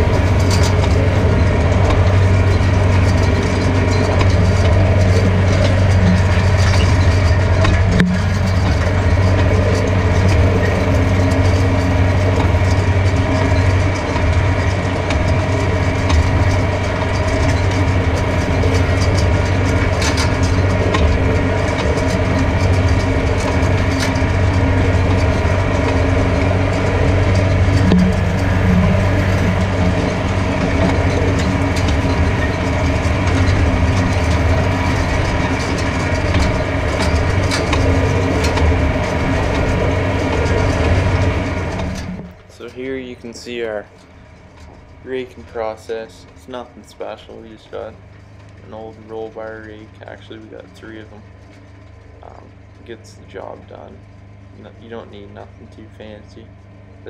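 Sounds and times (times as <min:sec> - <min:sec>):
tractor diesel engine humming: 0:00.0 - 0:57.0.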